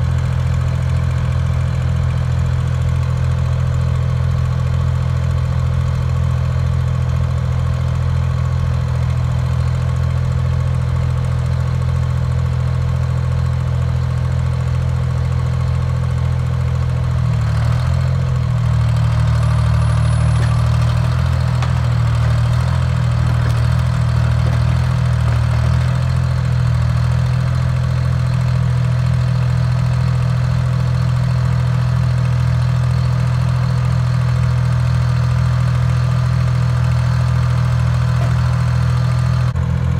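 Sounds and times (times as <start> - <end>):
crane engine running: 0.0 - 39.9.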